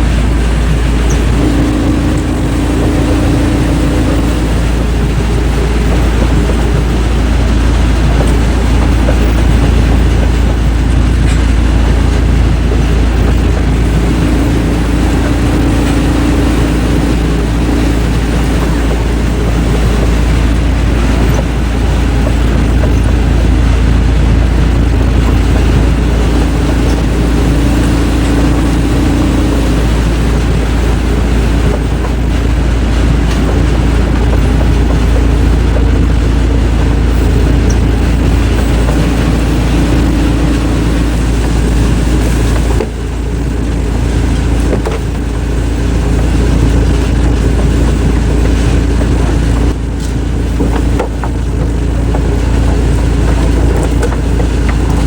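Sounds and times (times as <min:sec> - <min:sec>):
heavy wood-processing machinery running: 0:00.0 - 0:55.0.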